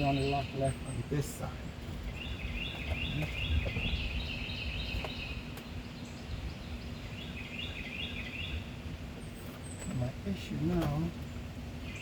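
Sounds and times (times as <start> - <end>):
bird chirping: 0.0 - 12.0
low rumbling microphone noise: 0.0 - 12.0.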